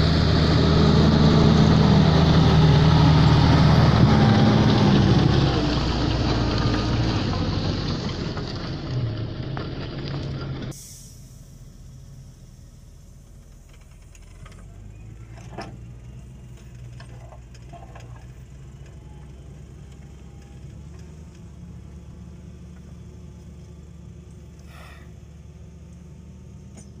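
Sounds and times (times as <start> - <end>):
tractor diesel engine under load: 0.0 - 27.0.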